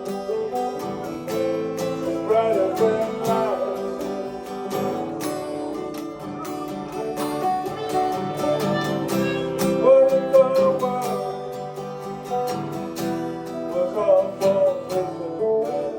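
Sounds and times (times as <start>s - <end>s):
person singing: 0.0s - 11.8s, 13.4s - 15.9s
acoustic guitar: 0.0s - 15.9s.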